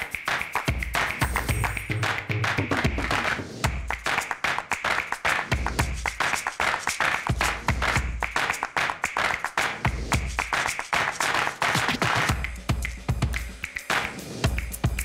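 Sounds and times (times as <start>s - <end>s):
upbeat percussive music: 0.0s - 15.0s.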